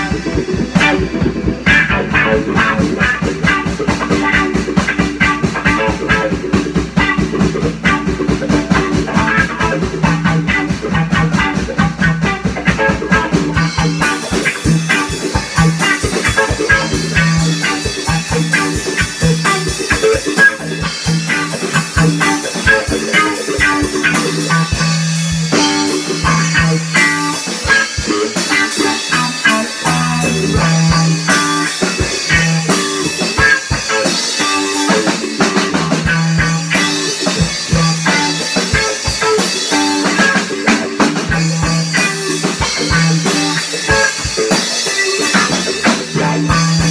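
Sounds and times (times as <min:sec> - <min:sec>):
drum kit playing: 0:00.0 - 0:46.9
guitar riffs: 0:00.0 - 0:46.9.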